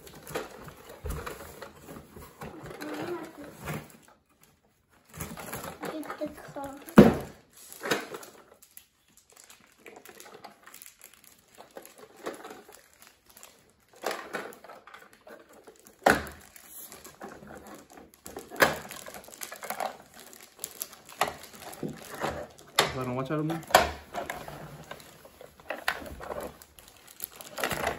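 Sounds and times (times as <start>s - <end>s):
clicks and knocks of plastic parts: 0.0s - 27.9s.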